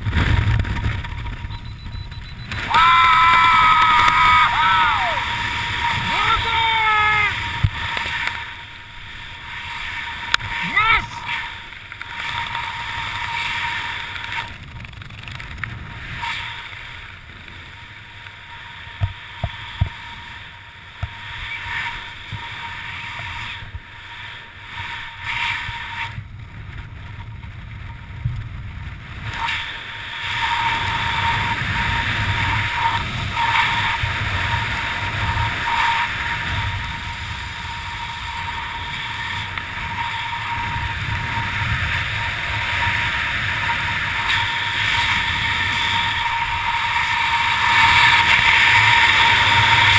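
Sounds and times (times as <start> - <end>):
wind rushing over microphone: 0.0 - 17.3, 18.8 - 49.9.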